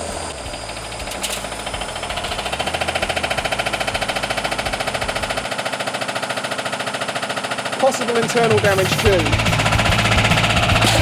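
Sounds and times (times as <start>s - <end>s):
washing machine clattering on spin: 0.0s - 11.0s.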